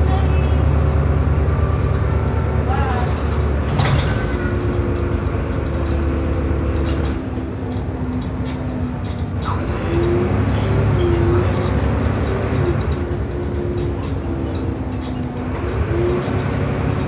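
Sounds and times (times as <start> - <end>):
bus engine humming with whine: 0.0 - 17.0.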